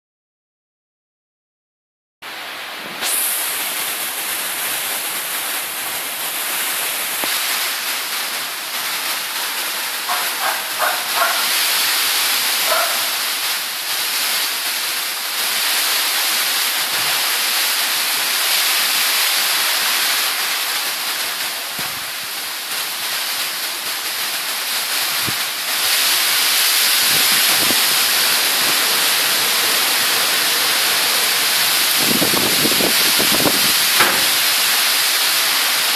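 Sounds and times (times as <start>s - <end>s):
heavy rain falling: 2.3s - 35.9s.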